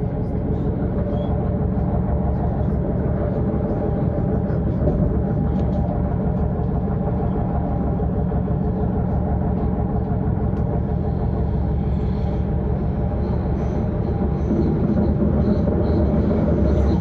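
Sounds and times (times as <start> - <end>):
electric train rumble: 0.0 - 17.0.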